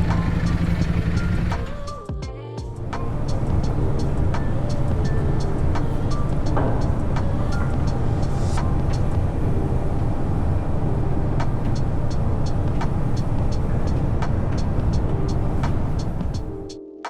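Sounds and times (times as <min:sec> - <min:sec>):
low vehicle engine rumble: 0:00.0 - 0:02.0, 0:02.8 - 0:16.6.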